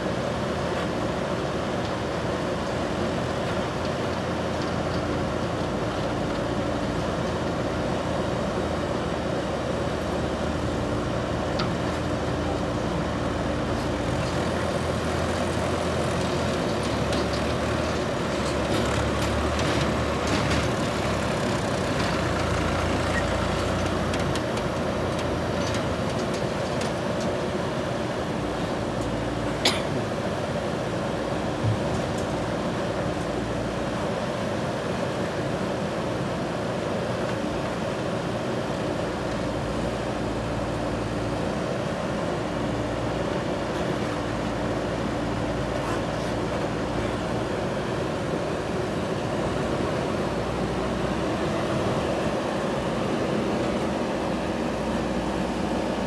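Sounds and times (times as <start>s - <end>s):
backhoe diesel engine running: 0.3s - 56.0s.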